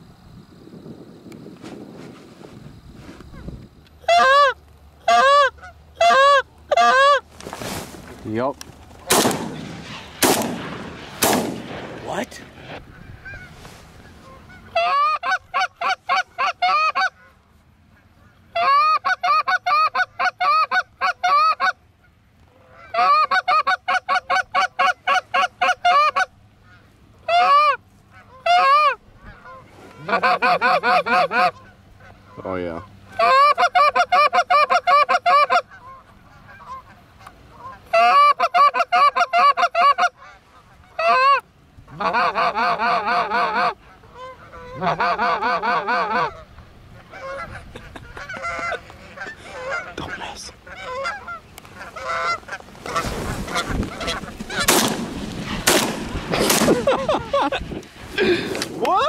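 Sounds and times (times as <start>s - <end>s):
goose honking and clucking: 3.3s - 7.3s, 12.1s - 57.5s.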